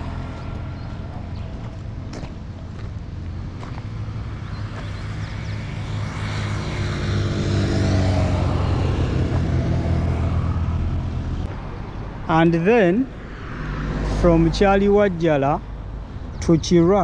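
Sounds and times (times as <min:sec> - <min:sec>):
motor vehicle passing by: 0:00.0 - 0:15.4
road traffic rumble: 0:00.0 - 0:17.0.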